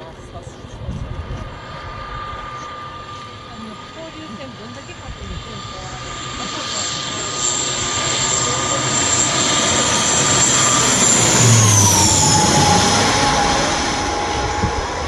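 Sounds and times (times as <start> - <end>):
propeller airliner passing overhead: 0.0 - 15.0.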